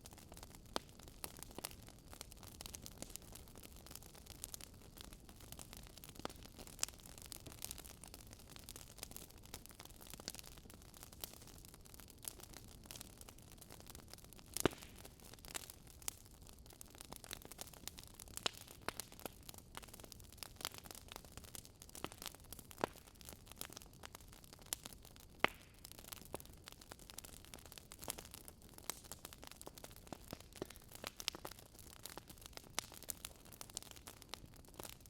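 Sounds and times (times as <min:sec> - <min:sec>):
logs crackling in fireplace: 0:00.1 - 0:35.0.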